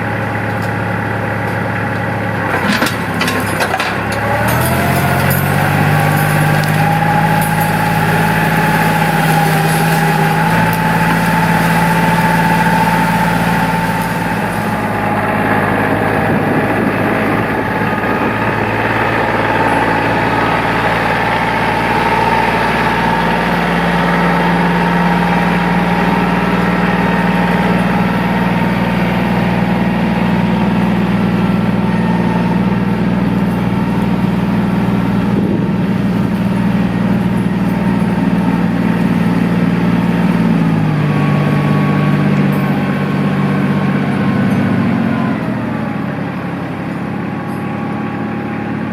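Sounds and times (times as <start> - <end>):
high whine: 0.0 - 48.6
tractor engine running: 0.0 - 48.9.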